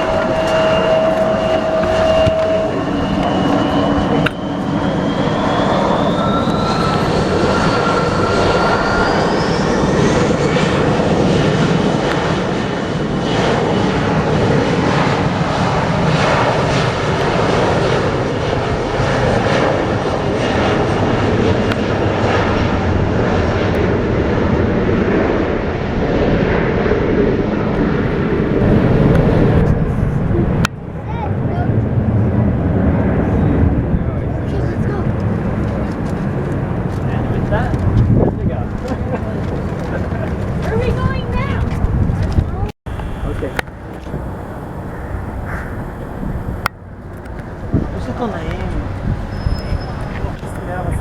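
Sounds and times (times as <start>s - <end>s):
airplane engines roaring: 0.0s - 51.0s
rising engine whine: 0.0s - 51.0s.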